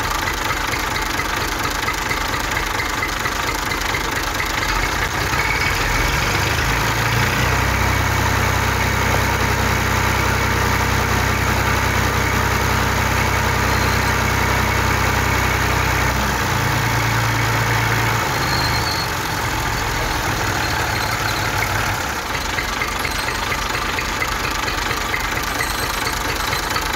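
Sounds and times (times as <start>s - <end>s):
vehicle engine idling: 0.0s - 26.9s.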